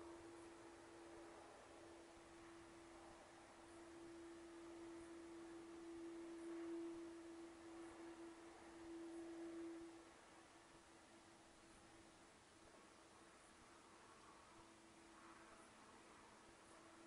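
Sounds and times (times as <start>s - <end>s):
faint single-pitched hum: 0.0s - 17.0s
low hiss: 0.0s - 17.0s.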